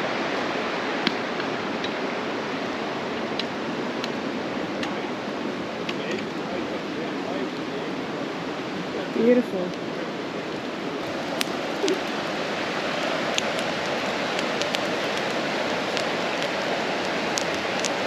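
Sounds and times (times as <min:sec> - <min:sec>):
fire crackling: 0:00.0 - 0:18.0
steady rushing hiss: 0:00.0 - 0:18.0.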